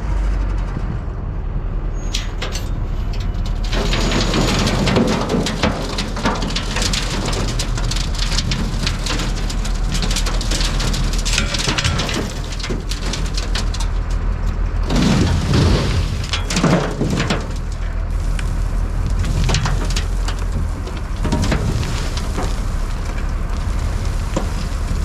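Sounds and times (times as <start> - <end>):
truck engine running: 0.0 - 25.0
sand pouring onto steel: 3.5 - 14.0, 14.8 - 25.0.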